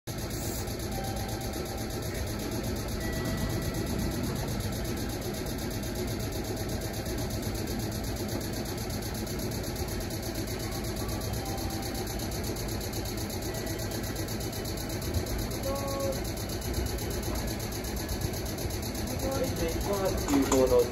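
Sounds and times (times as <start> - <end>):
electric trains humming: 0.2 - 20.9.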